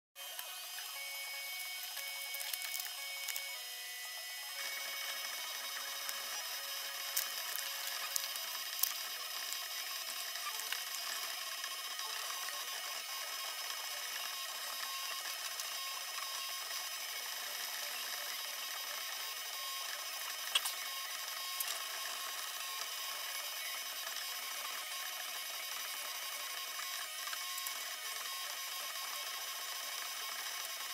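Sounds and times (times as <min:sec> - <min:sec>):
laser engraver head whine: 0:00.2 - 0:30.9.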